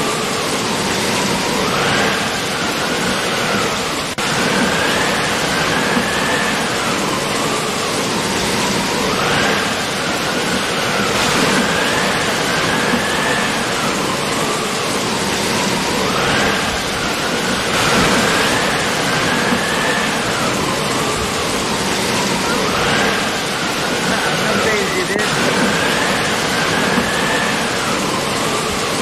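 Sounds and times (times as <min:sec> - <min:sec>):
faint whine rising and falling: 0:00.0 - 0:29.0
river rushing: 0:00.0 - 0:29.0.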